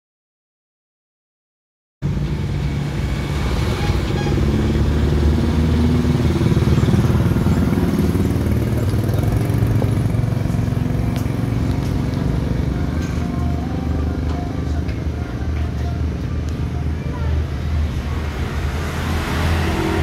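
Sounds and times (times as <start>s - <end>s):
road traffic: 2.0s - 20.0s
motorcycle engines running: 2.1s - 20.0s.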